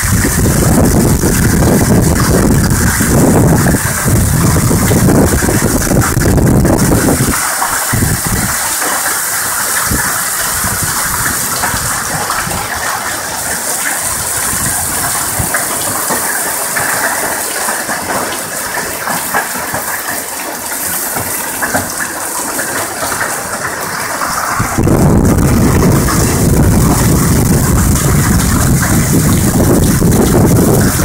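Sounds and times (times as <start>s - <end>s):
heavy rain and hail: 0.0s - 31.0s.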